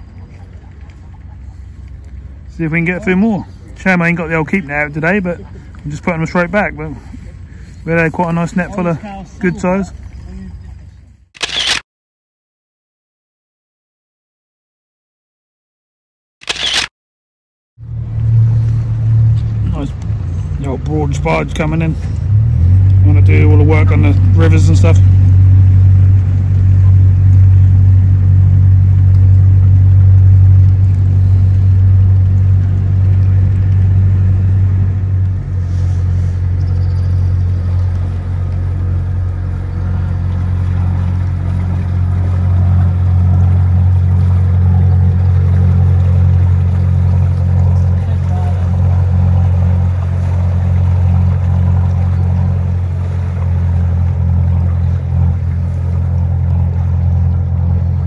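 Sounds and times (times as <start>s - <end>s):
boat engine low drone: 0.0s - 11.8s, 17.8s - 58.0s.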